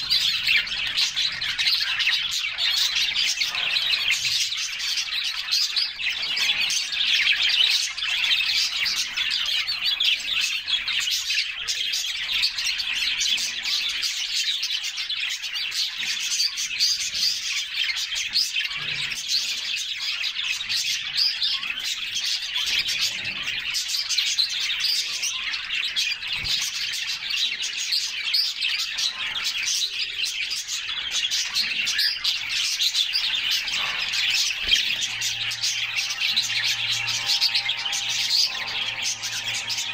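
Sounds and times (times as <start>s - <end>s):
canaries chirping and singing: 0.0s - 39.9s.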